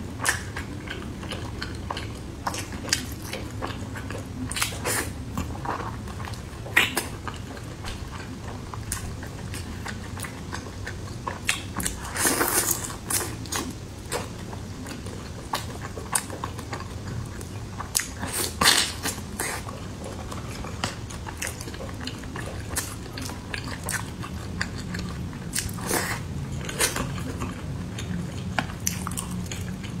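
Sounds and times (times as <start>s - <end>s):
person chewing food: 0.2s - 30.0s.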